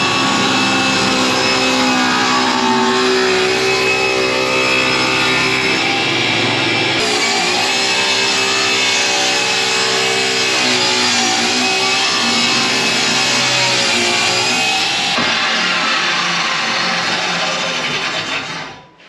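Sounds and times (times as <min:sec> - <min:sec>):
rock music with guitar: 0:00.0 - 0:16.1.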